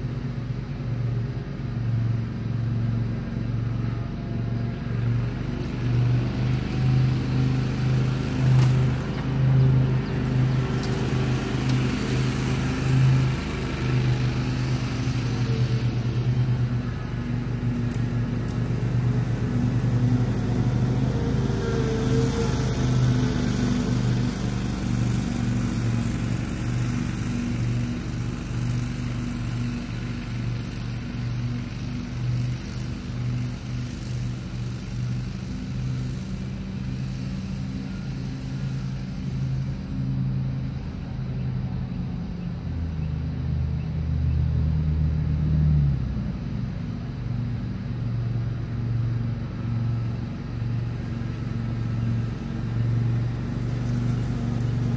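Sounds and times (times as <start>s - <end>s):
riding mower engine running: 0.0s - 54.9s.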